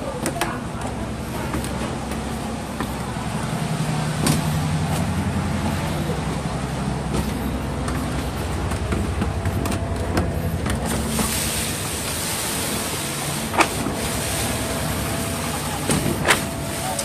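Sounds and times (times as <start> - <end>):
pump engine drone: 0.0 - 17.0.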